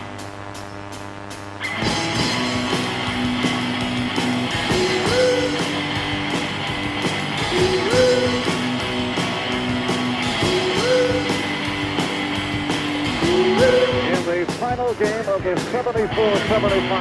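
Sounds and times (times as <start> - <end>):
rock music with electric guitar: 1.6 - 17.0.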